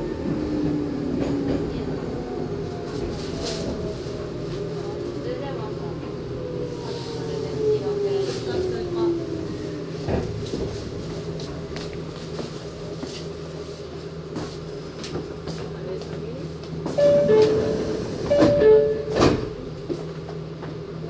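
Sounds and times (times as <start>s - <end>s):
electric train humming: 0.0s - 15.6s, 16.2s - 21.0s.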